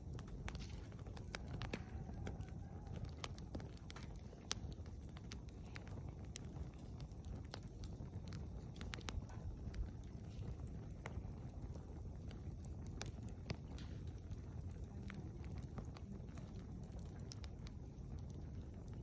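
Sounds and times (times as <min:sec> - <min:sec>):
campfire crackling and popping: 0:00.0 - 0:19.0
low rumble of burning: 0:00.0 - 0:19.0.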